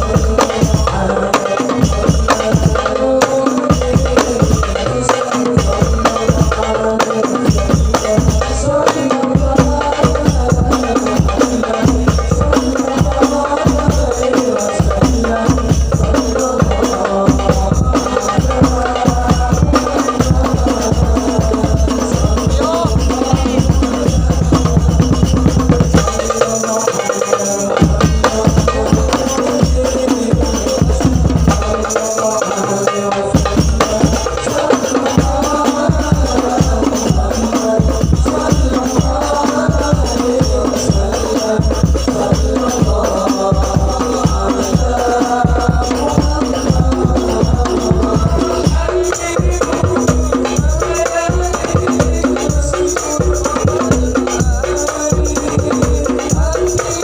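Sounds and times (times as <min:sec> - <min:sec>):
drum beats: 0:00.0 - 0:57.0
hand percussion with jingles: 0:00.1 - 0:57.0.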